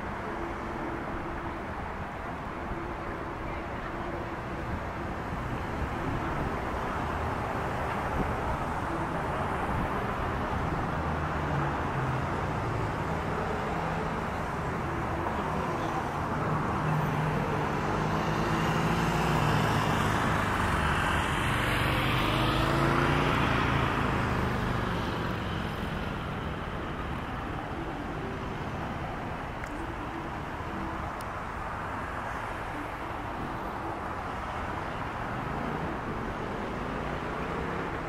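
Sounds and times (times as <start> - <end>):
steady road traffic: 0.0 - 38.0.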